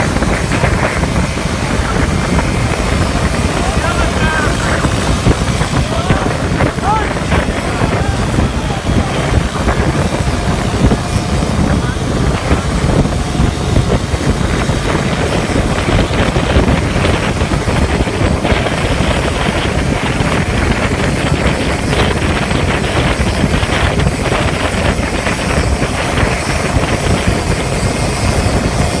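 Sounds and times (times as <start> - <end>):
motorcycle rickshaw rumble: 0.0 - 29.0
wind buffeting microphone: 0.0 - 29.0.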